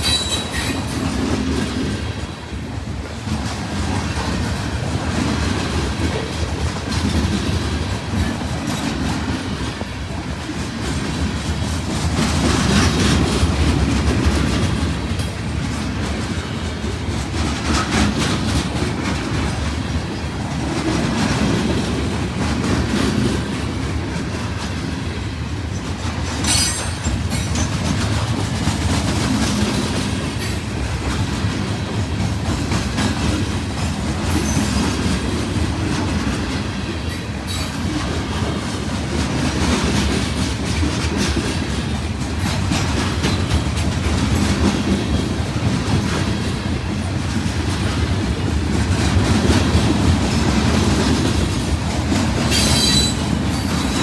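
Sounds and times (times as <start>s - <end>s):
train cars rumbling past: 0.0s - 54.0s
wheels clicking over rail joints: 10.7s - 54.0s.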